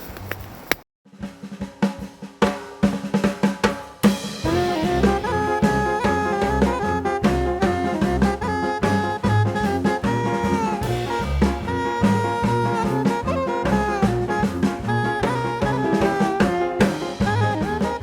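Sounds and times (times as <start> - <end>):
swinging drum beat: 1.1 - 18.0
upbeat jazz with brass: 2.8 - 18.0.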